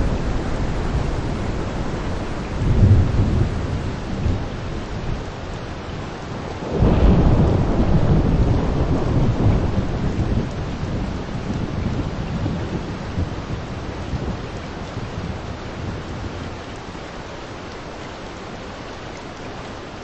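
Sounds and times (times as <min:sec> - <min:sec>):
thunder rumbling: 0:00.0 - 0:16.6
steady rain: 0:00.0 - 0:20.0.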